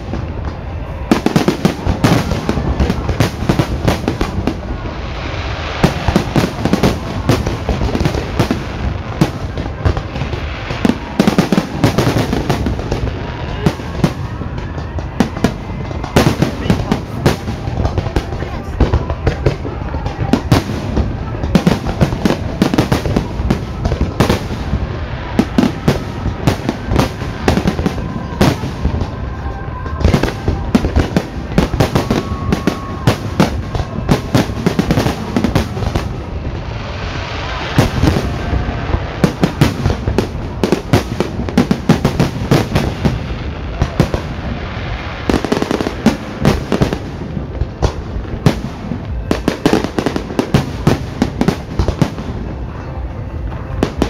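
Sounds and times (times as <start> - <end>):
fireworks bangs and pops: 0.0 - 54.0.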